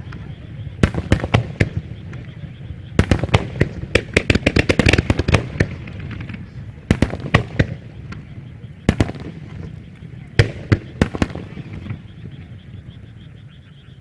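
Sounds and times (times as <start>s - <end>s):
fireworks bangs: 0.0s - 13.4s.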